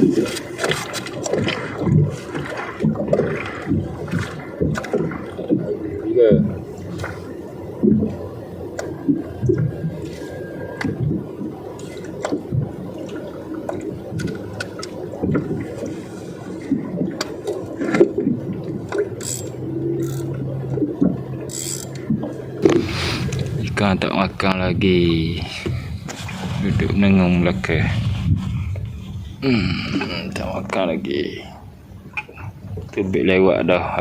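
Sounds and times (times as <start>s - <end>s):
water slapping against boat hull: 0.0s - 29.0s
low steady hum: 0.0s - 34.0s.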